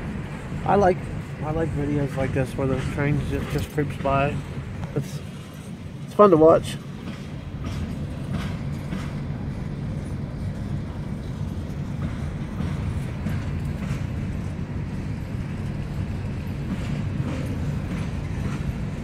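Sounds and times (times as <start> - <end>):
rail cars rumbling: 0.0 - 19.0.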